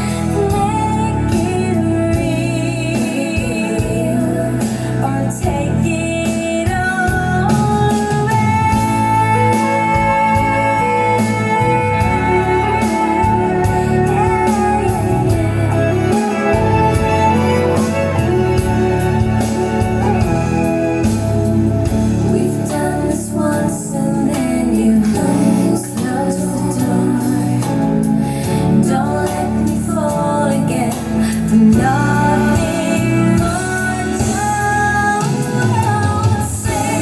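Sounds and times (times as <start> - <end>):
song over loudspeaker: 0.0 - 37.0.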